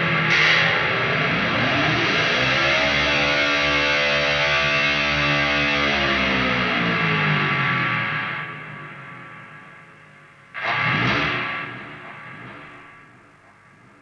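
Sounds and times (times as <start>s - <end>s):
distorted electric guitar note: 0.0s - 13.5s.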